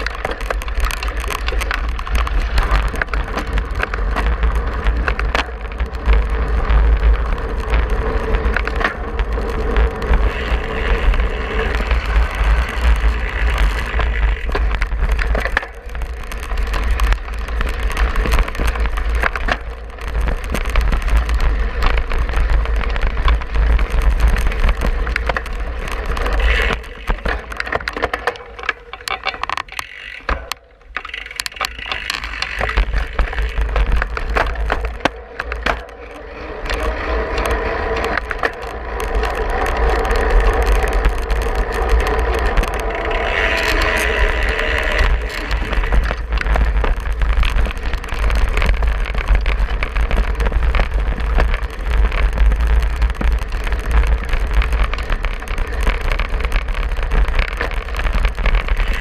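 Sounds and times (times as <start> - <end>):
bike rattling over gravel: 0.0 - 59.0
wind on microphone: 0.0 - 59.0.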